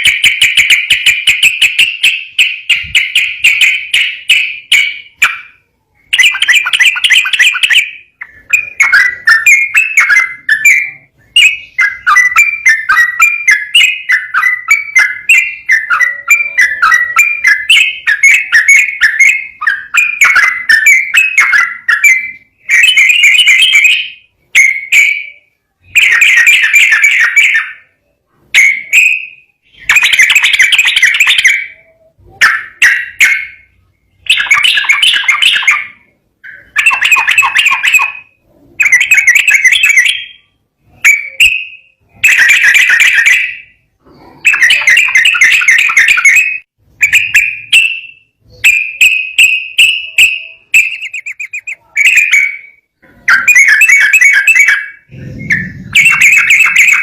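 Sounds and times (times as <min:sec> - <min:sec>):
bird singing bubbling phrases: 0:00.0 - 0:57.0.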